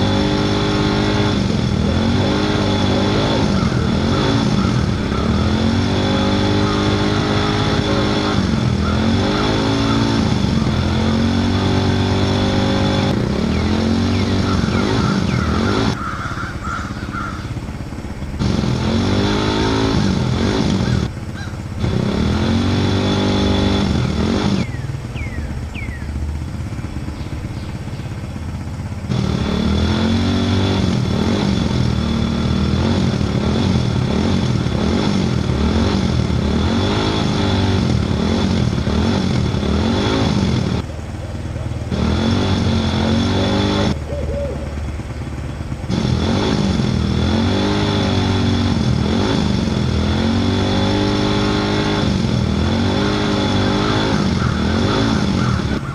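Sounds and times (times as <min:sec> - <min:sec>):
small engine revving: 0:00.0 - 0:55.9.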